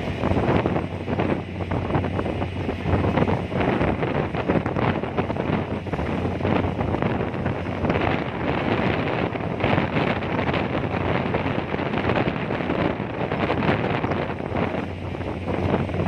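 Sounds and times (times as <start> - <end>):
ferry engine drone: 0.0 - 16.0
gusty wind buffeting microphone: 0.0 - 16.0.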